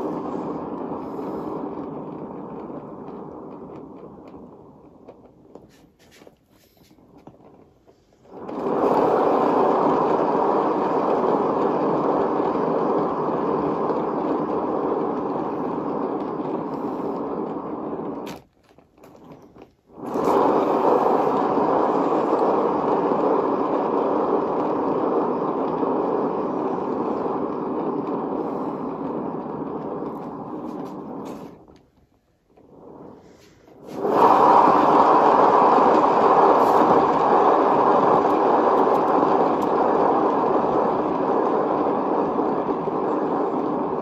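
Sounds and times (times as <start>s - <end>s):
turntable rolling rumble: 0.0s - 44.0s.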